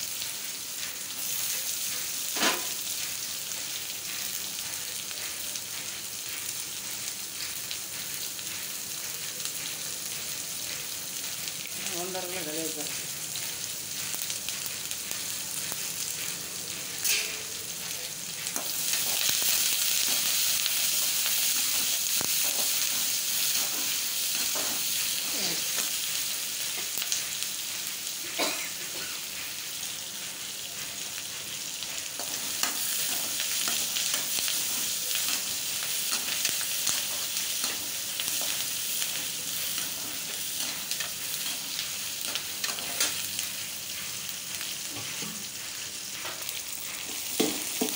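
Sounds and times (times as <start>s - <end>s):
onions sizzling in oil: 0.0s - 47.9s.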